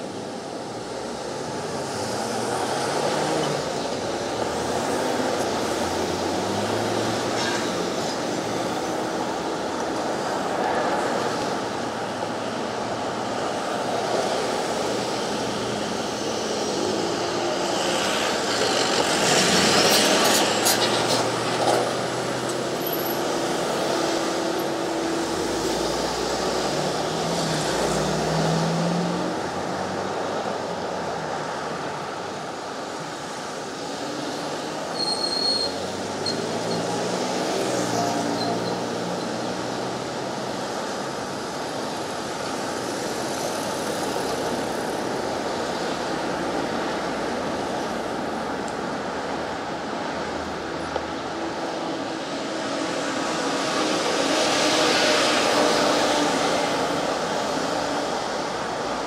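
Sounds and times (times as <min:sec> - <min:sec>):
passing cars: 0:00.0 - 0:59.0.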